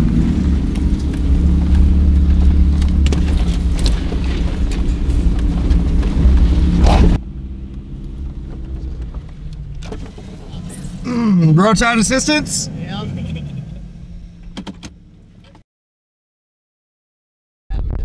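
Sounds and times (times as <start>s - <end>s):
car engine rumble: 0.0s - 15.6s.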